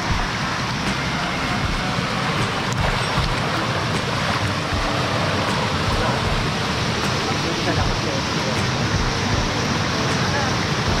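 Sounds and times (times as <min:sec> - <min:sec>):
rushing mountain stream: 0:00.0 - 0:11.0.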